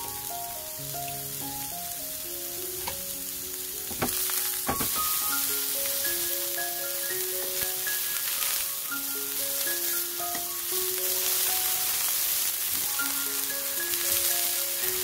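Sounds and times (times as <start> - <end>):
mushrooms sizzling in oil: 0.0 - 15.0
slow background music: 0.0 - 15.0.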